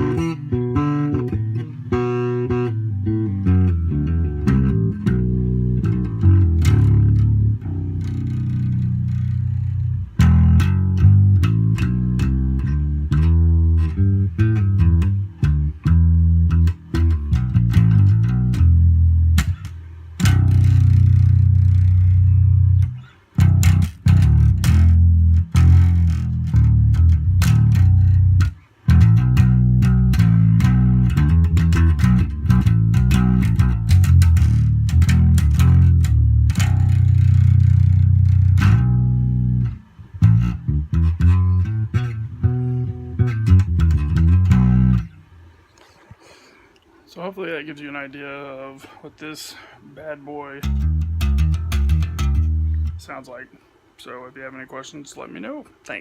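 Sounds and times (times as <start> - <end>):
electric bass guitar solo: 0.0 - 45.6, 49.3 - 53.5.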